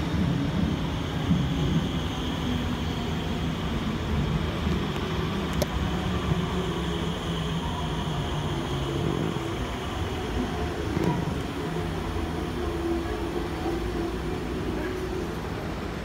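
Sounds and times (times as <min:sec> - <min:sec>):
metro train rumbling: 0:00.0 - 0:16.0.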